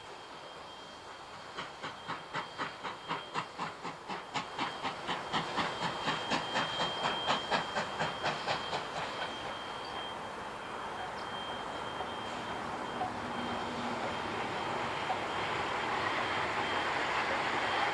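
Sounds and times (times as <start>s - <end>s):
passing train rumble and hiss: 0.0s - 17.9s
steam locomotive exhaust beats: 0.0s - 17.9s.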